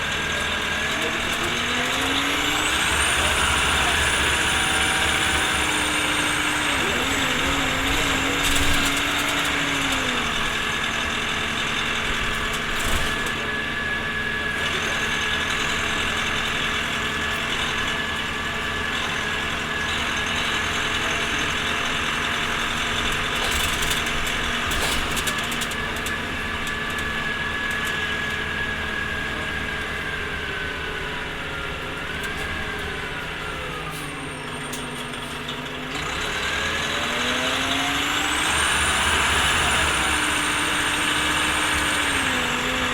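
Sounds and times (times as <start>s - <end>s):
bus engine running: 0.0s - 42.9s
transmission whine: 0.0s - 42.9s.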